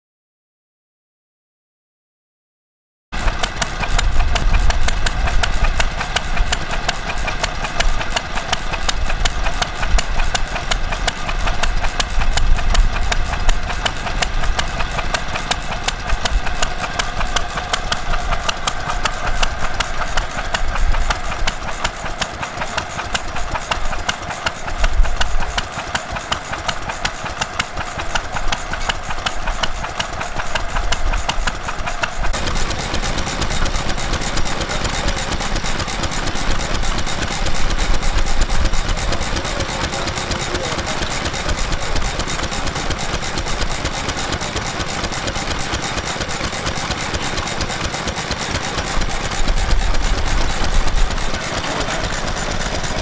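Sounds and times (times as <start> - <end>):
stationary engine running: 3.2 - 53.0.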